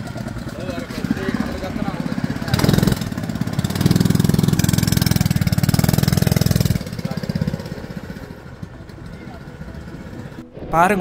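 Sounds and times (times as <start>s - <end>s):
go-kart engine running: 0.0s - 10.4s.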